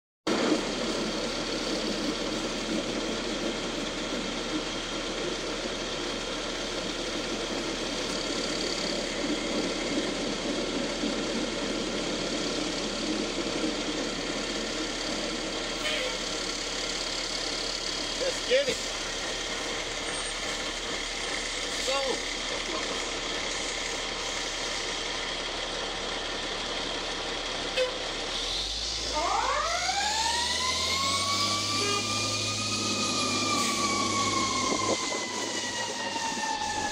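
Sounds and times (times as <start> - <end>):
train passing: 0.3 - 36.9
truck engine idling: 0.3 - 36.9.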